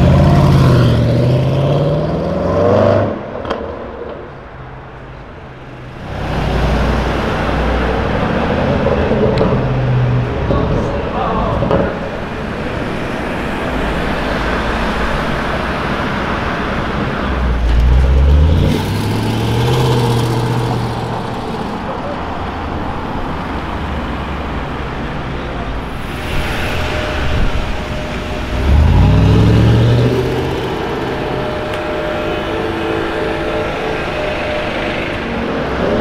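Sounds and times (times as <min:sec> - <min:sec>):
car engines accelerating: 0:00.0 - 0:36.0
street traffic noise: 0:00.0 - 0:36.0.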